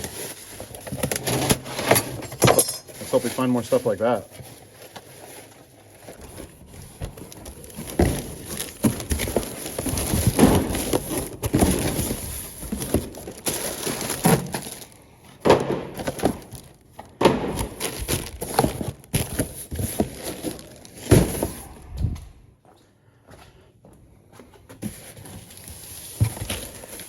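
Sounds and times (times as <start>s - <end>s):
packaging rustling: 0.0s - 21.8s, 24.9s - 27.0s
plastic packages clattering: 0.0s - 21.8s, 25.2s - 27.0s.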